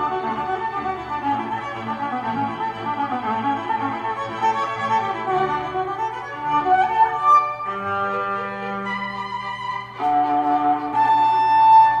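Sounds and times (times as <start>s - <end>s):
bowed strings with violin melody: 0.0s - 12.0s.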